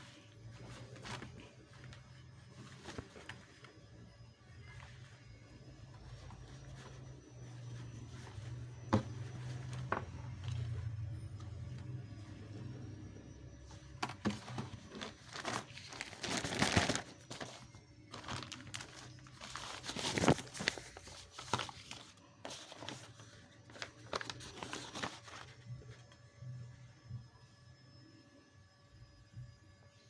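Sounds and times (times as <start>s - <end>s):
packaging crinkling and rustling: 0.0s - 11.9s, 13.6s - 26.1s.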